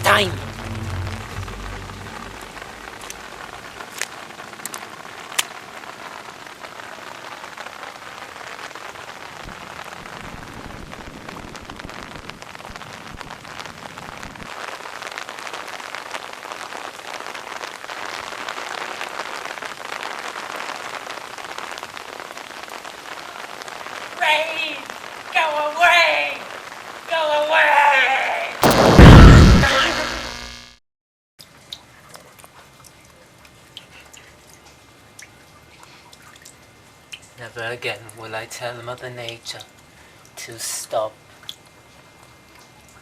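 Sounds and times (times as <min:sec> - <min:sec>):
steady rain falling: 0:00.0 - 0:30.5, 0:31.4 - 0:43.0.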